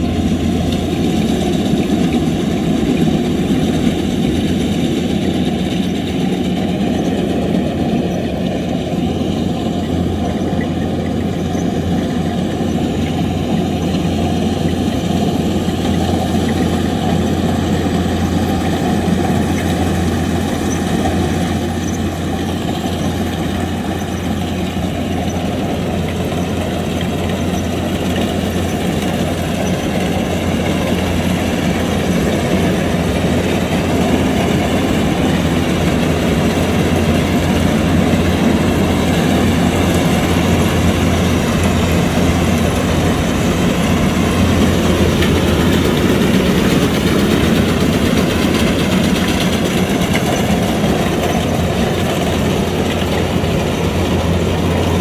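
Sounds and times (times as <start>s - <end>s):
combine harvester diesel engine running: 0.0s - 55.0s.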